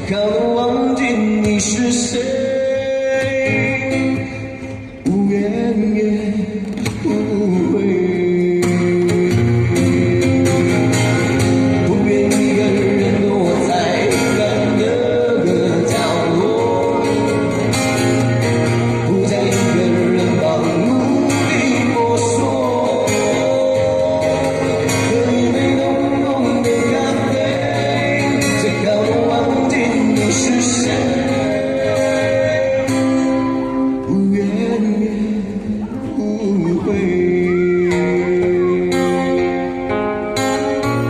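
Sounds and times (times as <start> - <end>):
guitar accompaniment: 0.0 - 41.0
man singing: 0.0 - 41.0.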